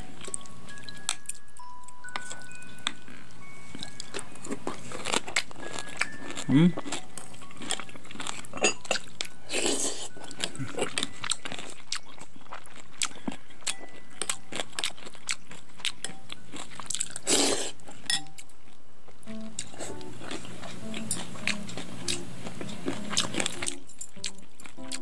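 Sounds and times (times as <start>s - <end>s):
person chewing crunchy food: 0.0s - 25.0s.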